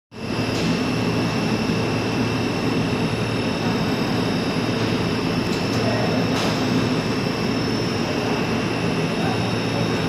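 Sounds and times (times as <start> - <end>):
machine hum: 0.1 - 10.0.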